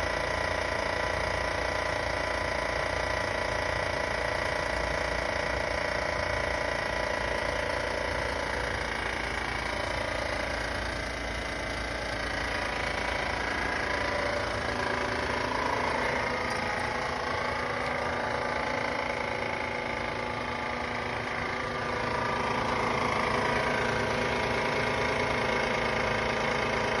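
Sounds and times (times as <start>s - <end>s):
van engine running: 0.0s - 27.0s.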